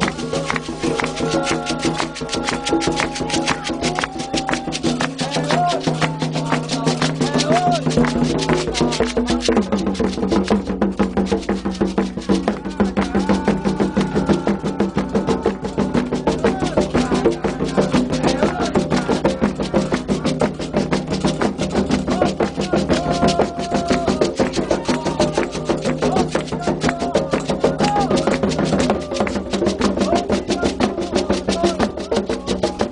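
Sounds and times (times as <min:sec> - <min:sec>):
fast drum and percussion rhythm: 0:00.0 - 0:32.9
voices singing: 0:00.0 - 0:32.9.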